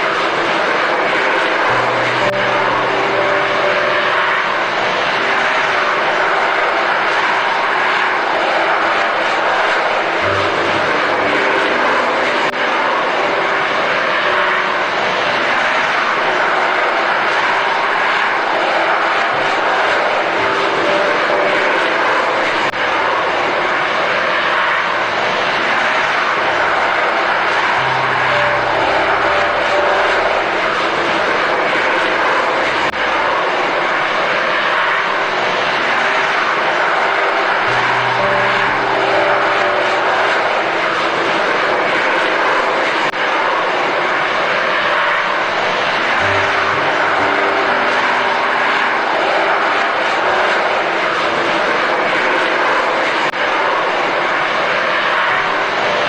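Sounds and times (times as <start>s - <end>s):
jet fighter engines roaring: 0.0s - 56.0s.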